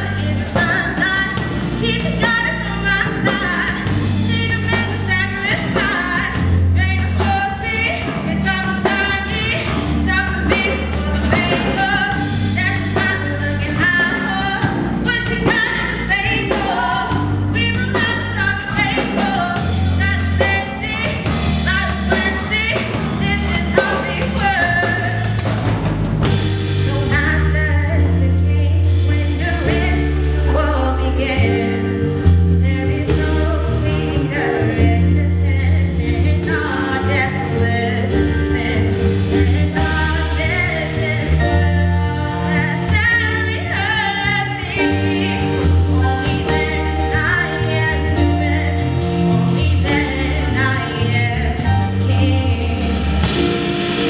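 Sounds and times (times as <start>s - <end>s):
woman singing: 0.0s - 25.6s, 26.4s - 54.0s
live rock band playing: 0.0s - 54.0s.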